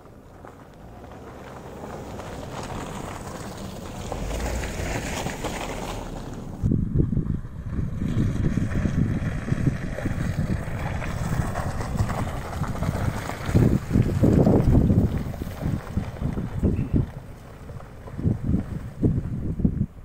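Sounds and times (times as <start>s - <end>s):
diesel car engine rumble: 0.0s - 20.0s
wind buffeting microphone: 0.0s - 20.0s.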